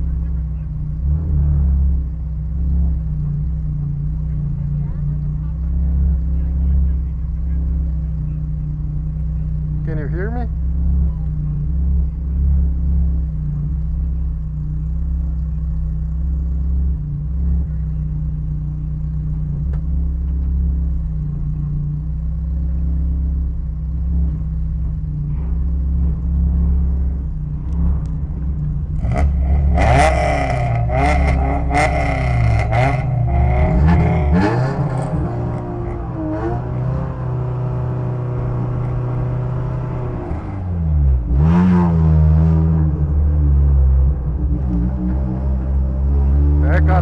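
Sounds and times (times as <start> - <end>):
race car engine revving: 0.0 - 47.0.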